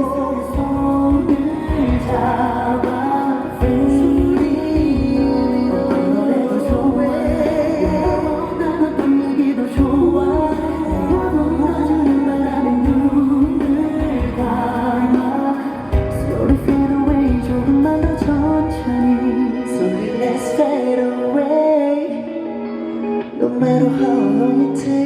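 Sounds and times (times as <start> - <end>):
band playing pop ballad: 0.0 - 25.0
person singing: 0.0 - 25.0.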